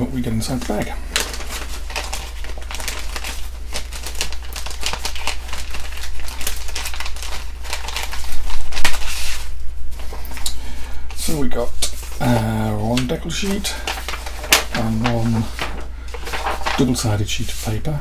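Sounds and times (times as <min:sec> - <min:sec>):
plastic bag crinkling: 0:00.2 - 0:10.5, 0:11.1 - 0:17.2.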